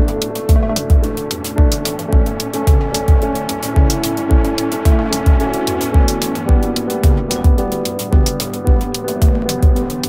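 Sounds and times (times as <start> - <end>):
held synth chords: 0.0 - 10.0
kick drum: 0.0 - 10.0
ticking hi-hats: 0.0 - 10.0.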